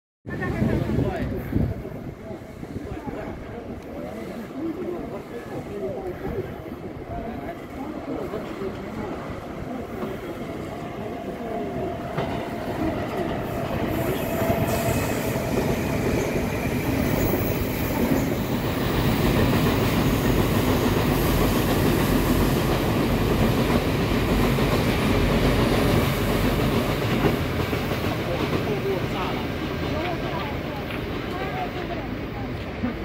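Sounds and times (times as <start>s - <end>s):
train passing: 0.3s - 33.0s.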